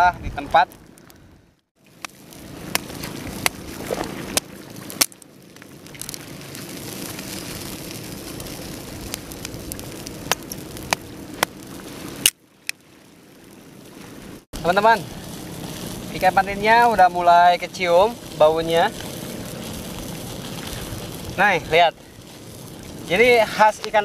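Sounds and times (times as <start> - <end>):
campfire crackling: 0.0 - 24.0
fire popping: 0.0 - 24.0.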